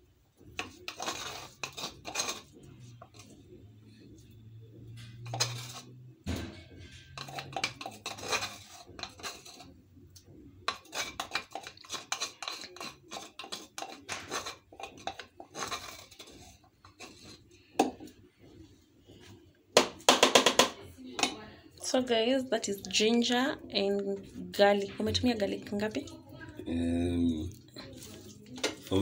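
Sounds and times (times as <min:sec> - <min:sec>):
kitchen utensils and dishes clattering: 0:00.4 - 0:03.5, 0:04.2 - 0:18.2, 0:19.2 - 0:21.4, 0:22.1 - 0:26.2, 0:27.7 - 0:29.0.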